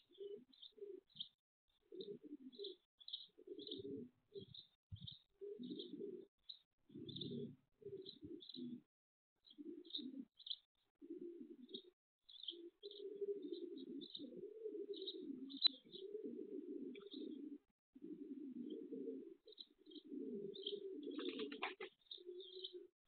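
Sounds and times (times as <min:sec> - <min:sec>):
pigeons cooing: 0:00.0 - 0:06.3, 0:06.9 - 0:22.9
small birds chirping: 0:00.0 - 0:22.9.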